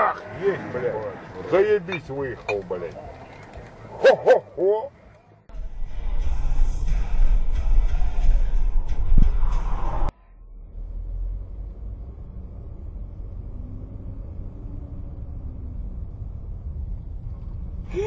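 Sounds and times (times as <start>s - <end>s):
tyres on road: 0.0s - 6.1s, 7.7s - 18.0s
car engine rumbling: 0.0s - 18.0s.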